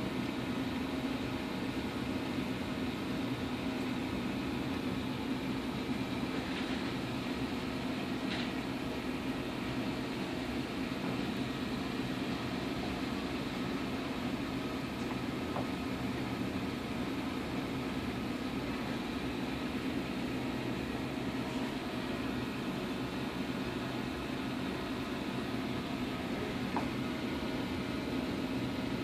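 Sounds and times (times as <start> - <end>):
aquarium pumps humming: 0.0 - 29.0.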